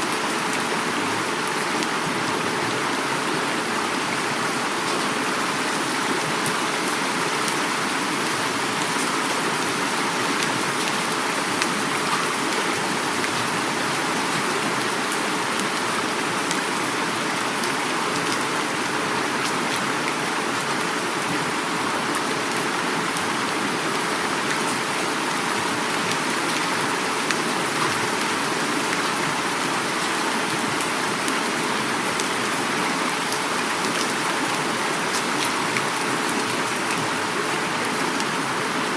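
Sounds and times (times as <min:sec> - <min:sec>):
heavy rain falling: 0:00.0 - 0:38.9
river water flowing: 0:00.0 - 0:38.9.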